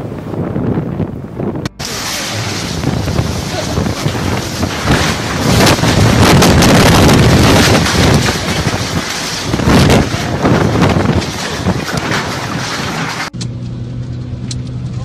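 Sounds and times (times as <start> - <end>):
wind blasting microphone: 0.0 - 13.4.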